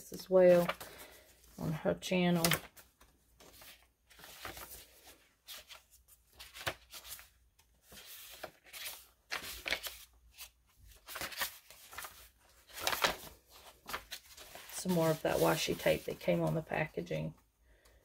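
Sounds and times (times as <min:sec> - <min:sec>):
paper pages turning: 0:00.3 - 0:16.8.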